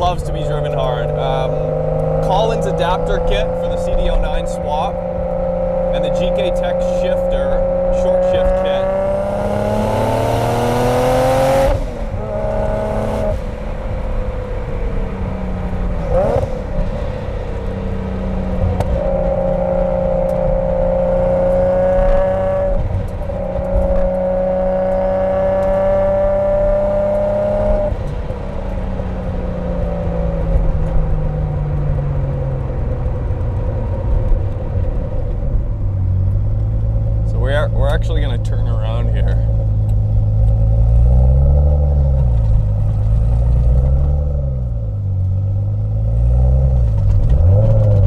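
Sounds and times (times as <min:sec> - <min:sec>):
car engine and exhaust while driving: 0:00.0 - 0:48.0.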